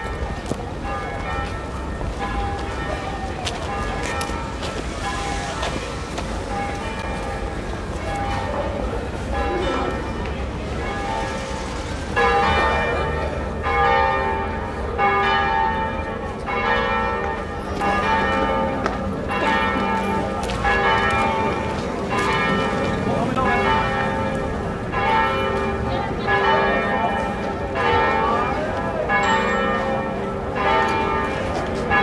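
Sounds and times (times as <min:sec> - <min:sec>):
bells ringing: 0:00.0 - 0:32.0.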